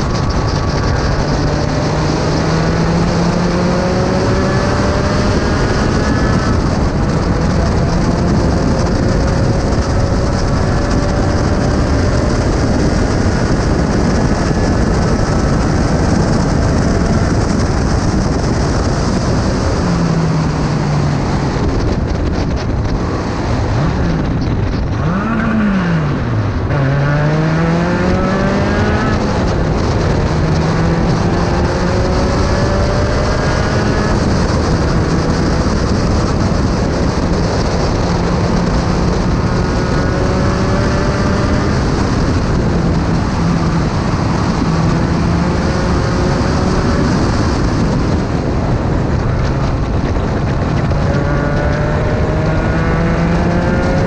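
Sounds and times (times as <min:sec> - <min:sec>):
race car engine revving: 0:00.0 - 0:54.0
wind rush: 0:00.0 - 0:54.0.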